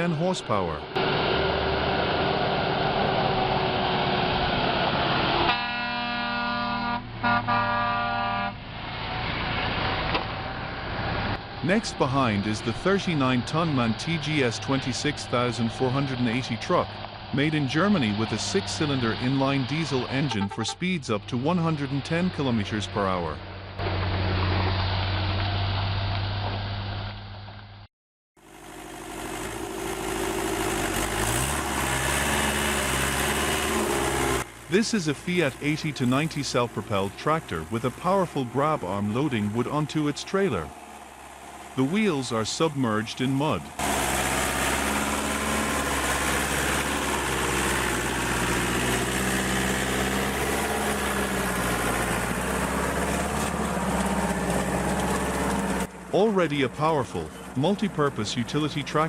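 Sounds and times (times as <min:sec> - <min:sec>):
heavy diesel engine running: 0:00.0 - 0:27.5, 0:28.4 - 0:59.0.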